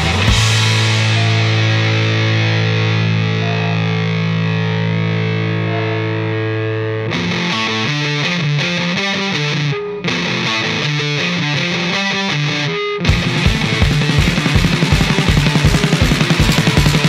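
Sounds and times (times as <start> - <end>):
distorted electric guitar rock: 0.0 - 17.0.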